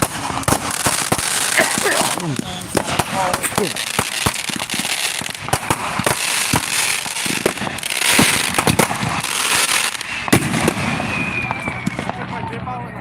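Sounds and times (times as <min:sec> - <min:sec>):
fireworks bangs: 0:00.0 - 0:12.8
fireworks crackling: 0:00.0 - 0:12.9.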